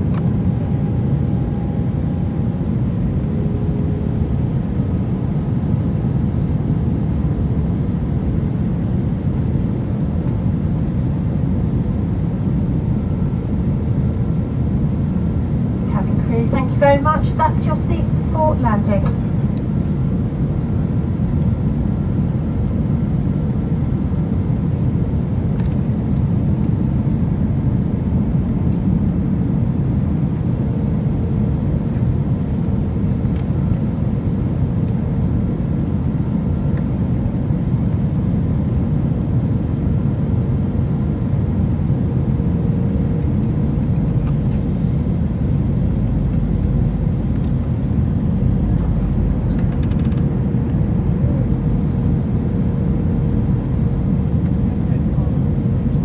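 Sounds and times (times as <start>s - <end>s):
airliner cabin engine noise: 0.0s - 56.0s
deep rumble: 0.0s - 56.0s
faint steady hum: 0.0s - 56.0s.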